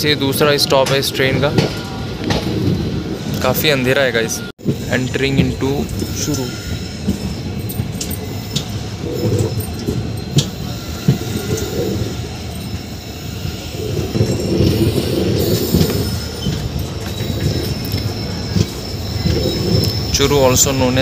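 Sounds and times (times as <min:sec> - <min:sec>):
train wheel and rail rumble: 0:00.0 - 0:21.0.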